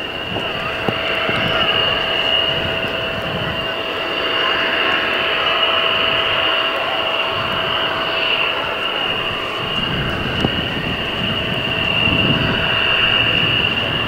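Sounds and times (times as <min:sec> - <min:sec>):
jet engine roar and whine: 0:00.0 - 0:14.0.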